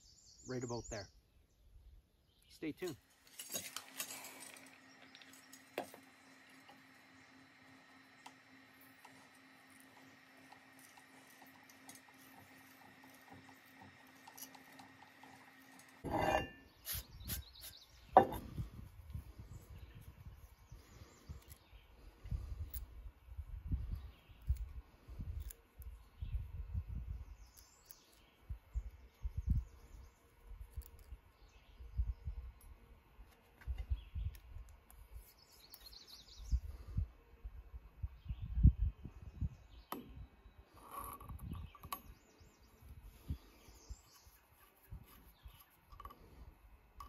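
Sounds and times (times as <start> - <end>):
faint steady hum: 2.9 - 47.0.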